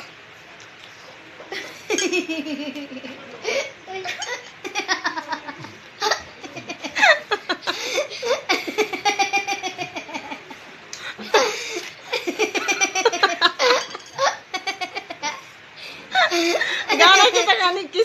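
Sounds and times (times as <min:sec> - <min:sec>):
people laughing and giggling: 0:01.5 - 0:15.5, 0:16.1 - 0:17.7.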